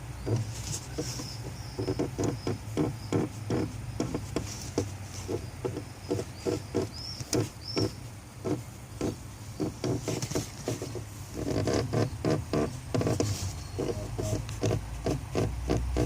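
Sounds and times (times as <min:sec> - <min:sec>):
clutch pedal squeaking: 0:00.0 - 0:16.0.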